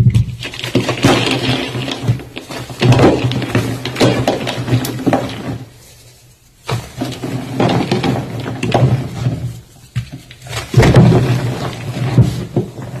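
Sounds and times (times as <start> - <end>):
chalk being crushed and crunching: 0.2 - 13.0.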